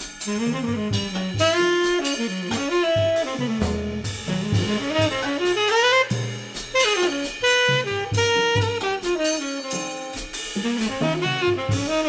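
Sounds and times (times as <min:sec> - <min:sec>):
cymbal and drum strikes: 0:00.0 - 0:12.0
tenor saxophone: 0:00.0 - 0:12.0.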